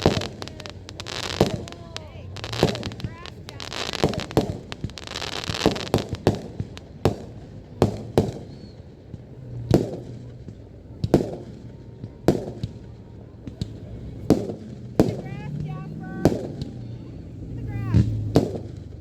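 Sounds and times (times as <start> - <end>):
fireworks bangs echoing: 0.0 - 19.0
fireworks crackle: 0.0 - 19.0.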